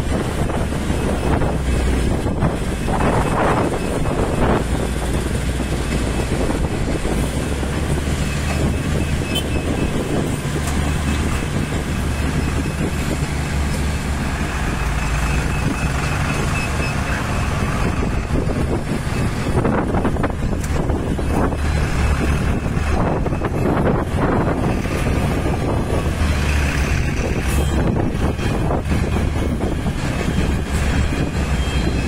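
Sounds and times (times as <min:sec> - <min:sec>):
diesel engines droning: 0:00.0 - 0:32.0.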